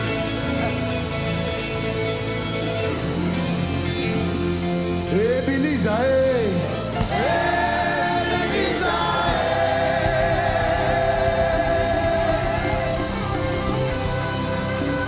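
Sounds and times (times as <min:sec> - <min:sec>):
choir singing gospel music: 0:00.0 - 0:15.0.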